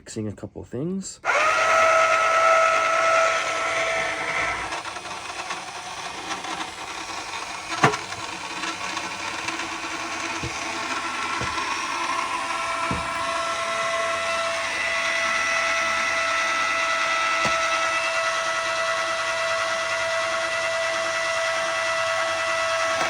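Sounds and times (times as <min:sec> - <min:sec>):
electric motor whining: 0:01.2 - 0:23.0.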